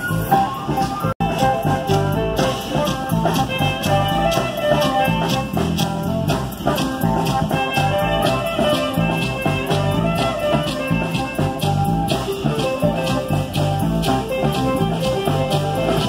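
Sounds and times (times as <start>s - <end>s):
live band with drums: 0.0s - 16.0s.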